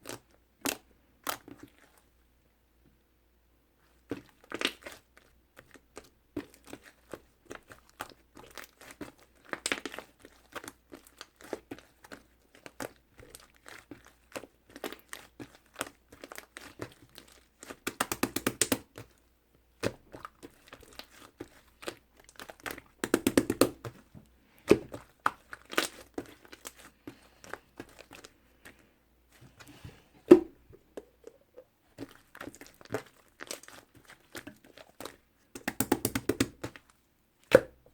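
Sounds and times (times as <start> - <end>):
slime squished by hand: 4.0 - 28.8, 29.4 - 37.8.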